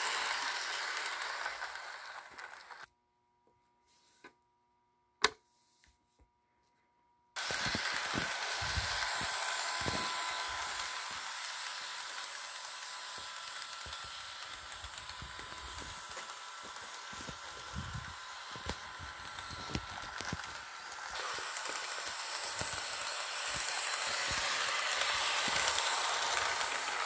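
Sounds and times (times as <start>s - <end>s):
model train motor whine: 0.0s - 2.9s, 7.4s - 27.0s
wheels clicking on track: 0.0s - 2.9s, 7.4s - 27.0s.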